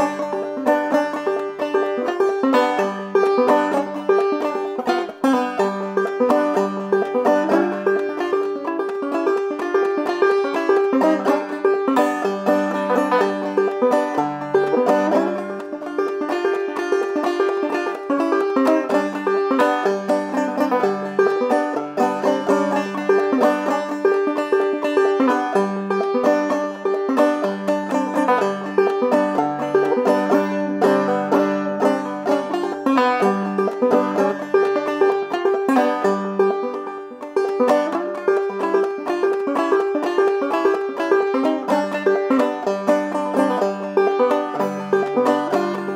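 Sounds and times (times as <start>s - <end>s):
banjo plucking tune: 0.0s - 45.9s.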